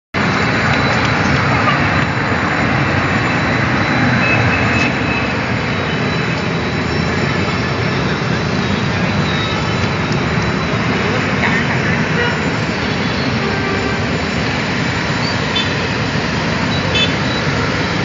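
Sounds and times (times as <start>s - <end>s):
train running on tracks: 0.2s - 18.0s.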